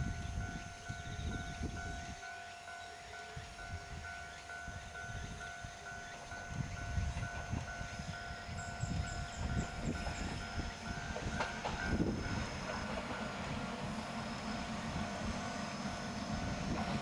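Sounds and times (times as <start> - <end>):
low gusty rumble: 0.0 - 2.2, 3.3 - 17.0
level crossing alarm dinging: 0.1 - 17.0.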